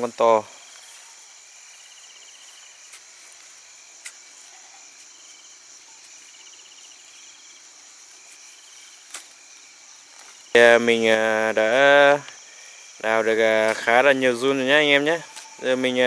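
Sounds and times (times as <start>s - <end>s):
crickets chirring: 0.0s - 16.0s
pulsed insect trill: 0.0s - 16.0s.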